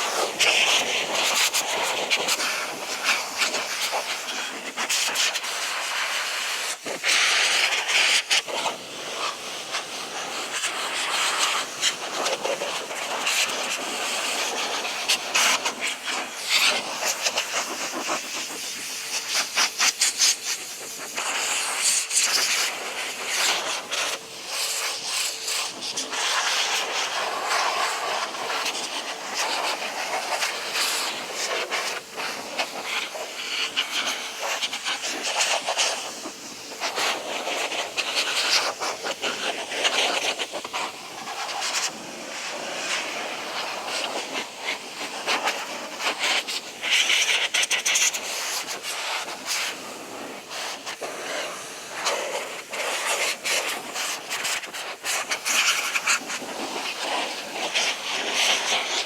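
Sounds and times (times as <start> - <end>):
air blower rushing hiss: 0.0 - 59.0.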